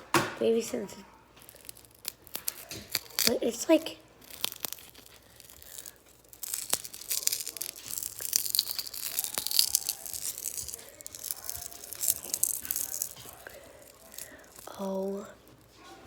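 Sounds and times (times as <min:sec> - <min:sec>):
film tearing: 0:01.3 - 0:16.0
glass pieces crackling: 0:01.4 - 0:15.8.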